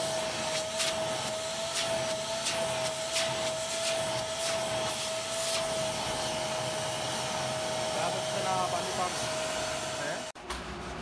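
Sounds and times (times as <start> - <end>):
vacuum cleaner whining: 0.0 - 10.4.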